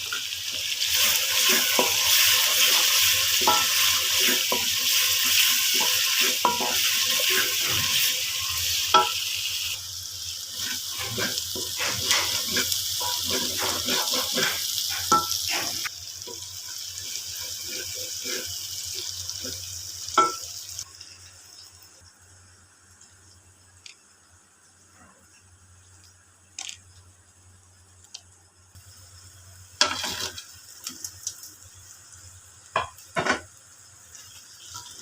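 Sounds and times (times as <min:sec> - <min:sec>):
food sizzling in oil: 0:00.0 - 0:24.8, 0:28.8 - 0:35.0.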